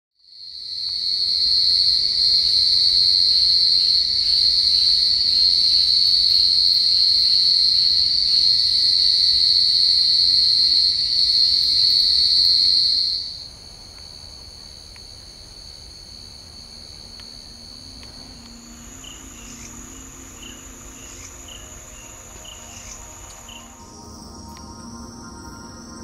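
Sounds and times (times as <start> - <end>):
insect chorus shrilling: 1.2 - 26.0.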